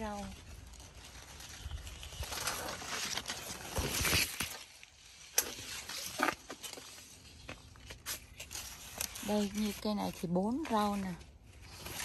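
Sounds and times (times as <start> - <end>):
corn leaves rustling: 0.0 - 12.0.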